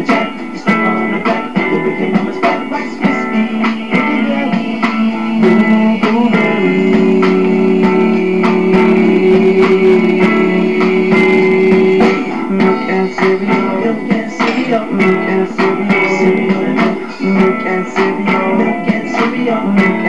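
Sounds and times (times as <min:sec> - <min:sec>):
guitar music with sharp beat: 0:00.0 - 0:20.0.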